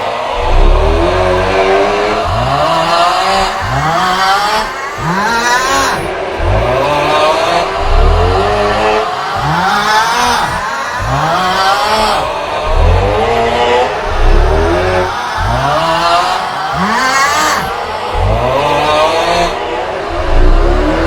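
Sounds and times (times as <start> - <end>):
man groaning aughhh: 0.4 - 21.0.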